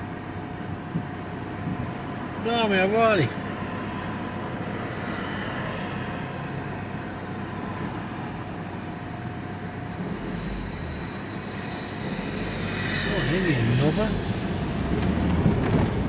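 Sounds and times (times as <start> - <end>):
engine and road noise: 0.0 - 16.0.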